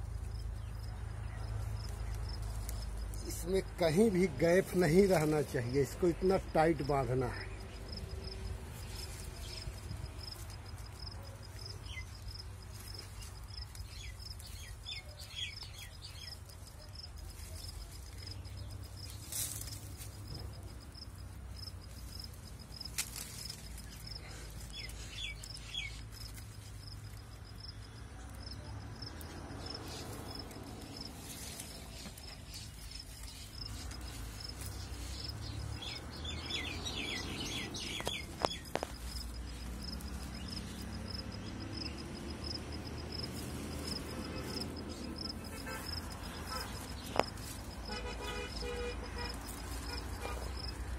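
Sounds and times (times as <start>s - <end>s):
insect chirping: 0.0s - 3.8s, 6.0s - 50.9s
small birds chirping: 0.0s - 50.9s.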